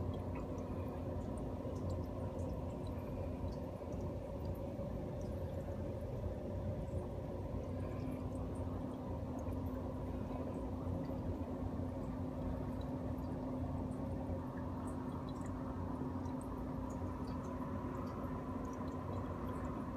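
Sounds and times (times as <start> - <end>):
aquarium pump humming: 0.0 - 19.9
water dripping: 0.0 - 19.9.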